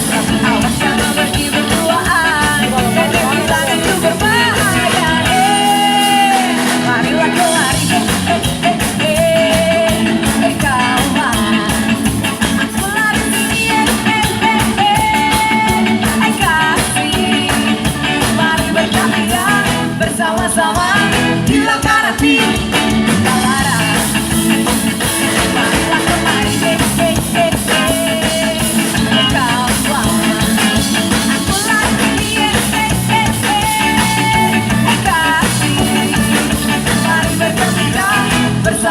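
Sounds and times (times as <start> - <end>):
lead singer singing: 0.0 - 38.9
ska band playing: 0.0 - 38.9.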